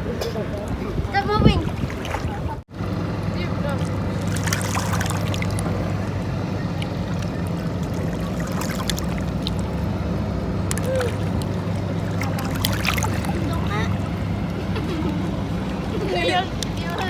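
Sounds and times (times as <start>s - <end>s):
low engine hum: 0.0s - 17.0s
water splashes: 0.0s - 17.0s.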